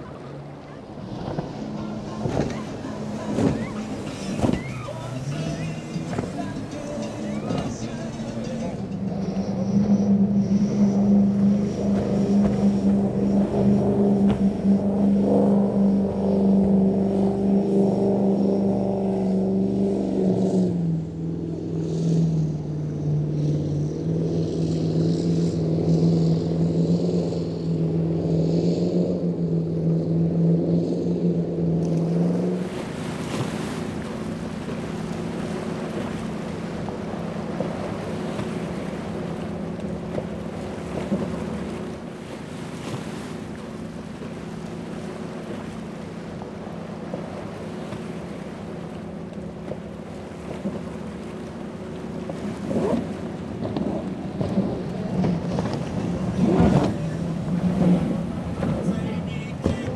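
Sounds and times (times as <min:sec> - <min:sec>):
powerboat engines droning: 0:00.0 - 0:59.9
waves and spray: 0:00.0 - 0:59.9.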